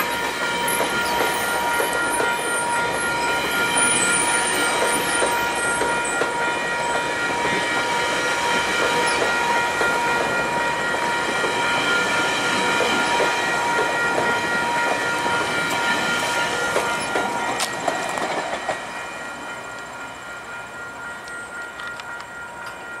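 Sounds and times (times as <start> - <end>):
level crossing bell ringing: 0.0 - 23.0
train wheels clicking over rail joints: 0.0 - 23.0.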